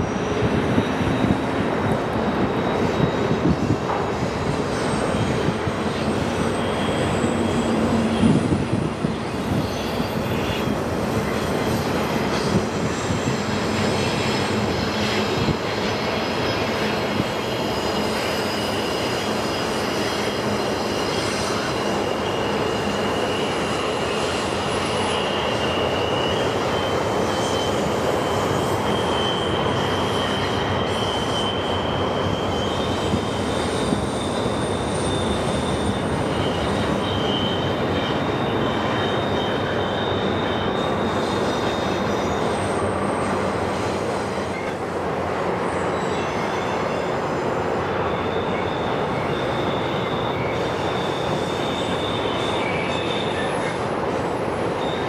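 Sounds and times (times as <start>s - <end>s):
freight train rumble: 0.0s - 55.0s
train wheels squealing: 0.0s - 55.0s.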